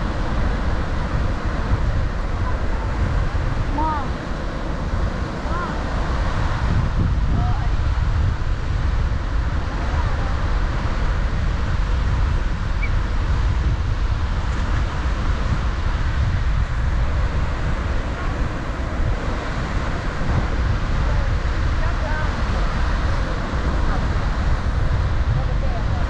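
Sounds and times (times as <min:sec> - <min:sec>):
surf hissing: 0:00.0 - 0:26.0
wind buffeting microphone: 0:00.0 - 0:26.0.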